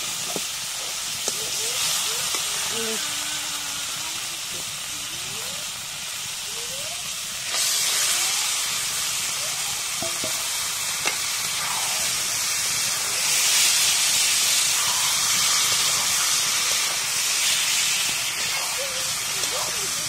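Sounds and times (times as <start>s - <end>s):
sizzling in a wok: 0.0s - 20.0s.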